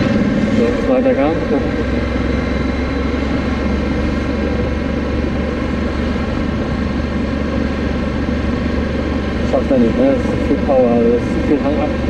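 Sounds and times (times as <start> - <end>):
motorcycle engine on overrun: 0.0 - 12.0.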